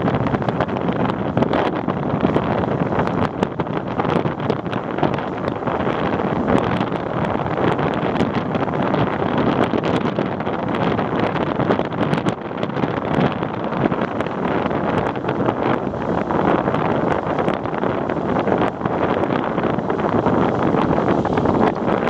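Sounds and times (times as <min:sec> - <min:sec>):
steady rushing noise: 0:00.0 - 0:22.0
wind on microphone: 0:00.0 - 0:22.0.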